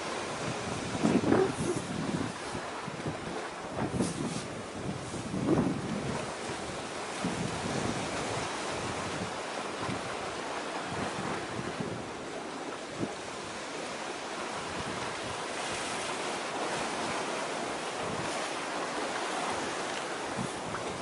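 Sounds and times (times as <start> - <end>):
sea waves: 0.0 - 21.0
wind buffeting microphone: 0.0 - 21.0.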